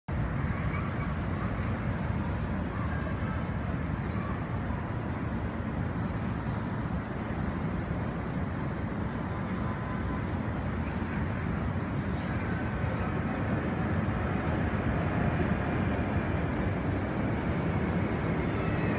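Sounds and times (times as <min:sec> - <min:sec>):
distant city traffic hum: 0:00.1 - 0:18.9.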